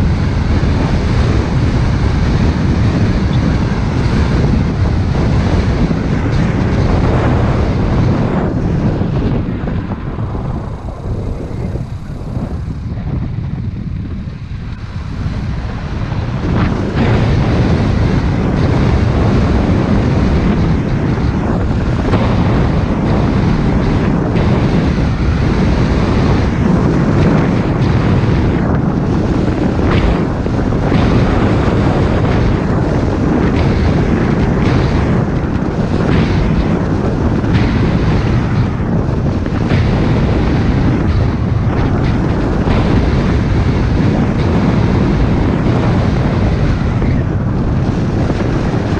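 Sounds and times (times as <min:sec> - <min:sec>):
tyre and road noise: 0:00.0 - 0:48.9
wind rushing over microphone: 0:00.0 - 0:48.9.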